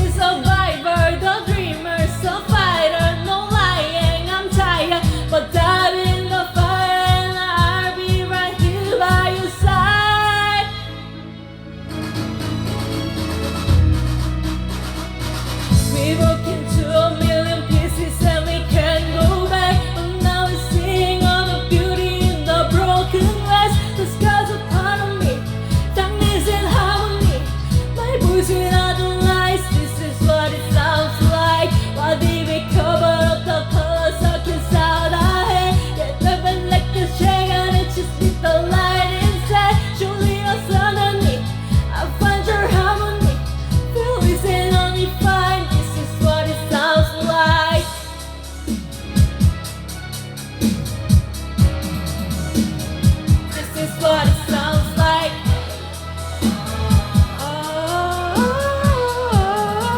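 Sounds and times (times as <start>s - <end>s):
pop song with singing: 0.0s - 59.9s.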